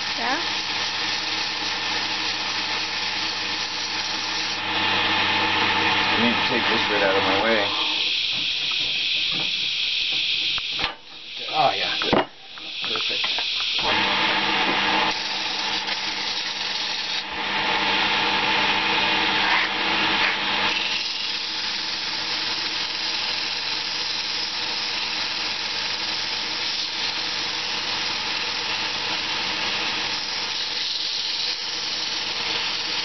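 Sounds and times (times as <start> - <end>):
lathe motor hum: 0.0 - 33.0.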